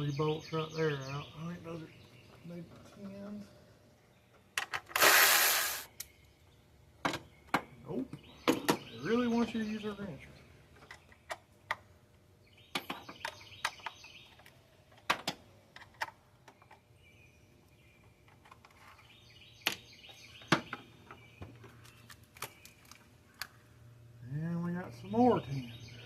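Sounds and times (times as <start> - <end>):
faint birdsong: 0.0 - 26.0.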